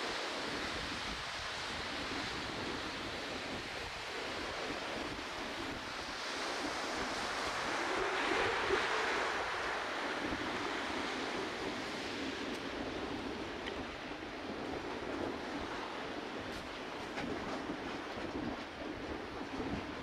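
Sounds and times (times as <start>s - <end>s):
surf washing on beach: 0.0s - 20.0s
wind buffeting microphone: 0.0s - 20.0s.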